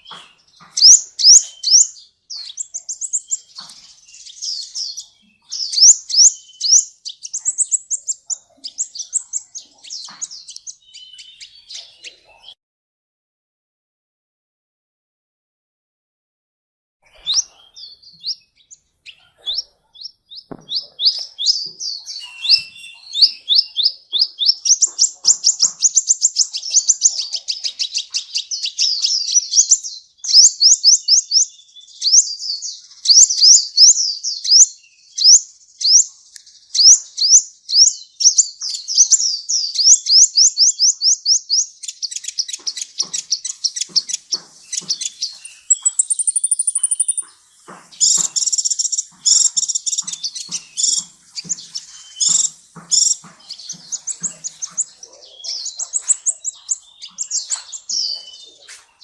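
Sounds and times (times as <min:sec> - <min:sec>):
sunbird twittering and trilling: 0:00.0 - 0:12.6, 0:17.0 - 0:59.0.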